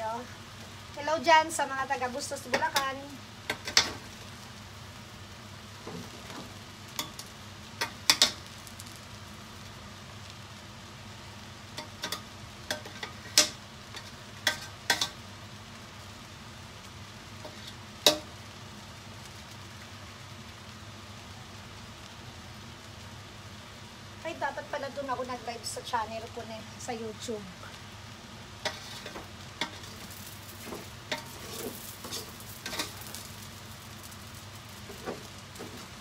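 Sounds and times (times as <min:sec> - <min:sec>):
frying sizzle: 0:00.0 - 0:36.0.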